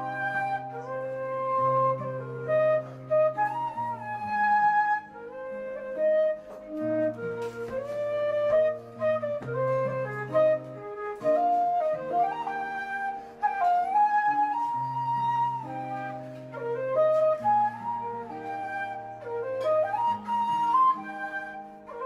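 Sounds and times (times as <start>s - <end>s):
acoustic guitar accompaniment: 0.0s - 22.0s
wooden flute melody: 0.0s - 22.0s.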